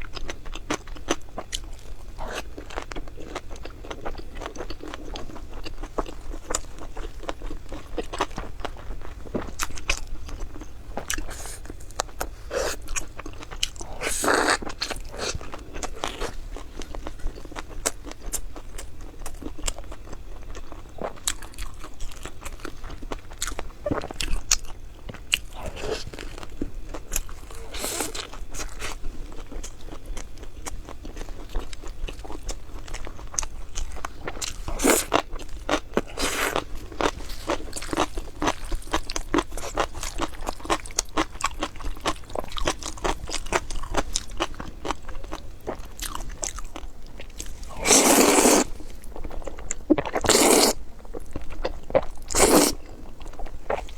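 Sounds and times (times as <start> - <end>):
crunchy food chewing: 0.0 - 53.9.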